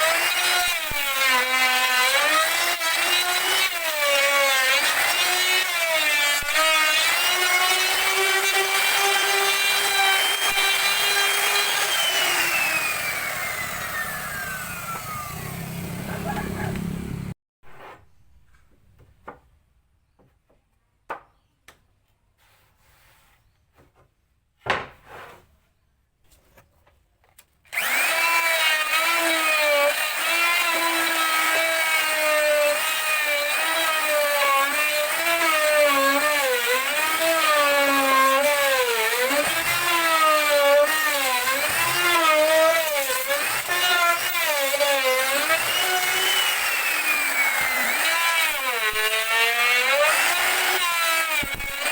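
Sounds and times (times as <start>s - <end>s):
power tool cutting wood: 0.0s - 17.4s, 27.7s - 51.9s.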